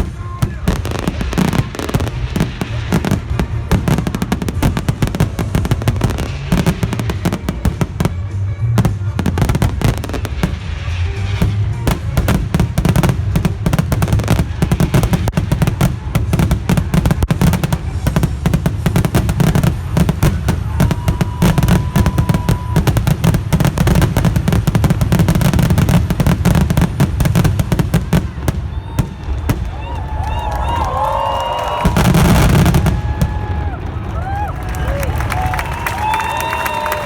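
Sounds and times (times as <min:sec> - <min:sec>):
fireworks bursts and crackling: 0:00.0 - 0:37.0
music playing: 0:00.0 - 0:37.0.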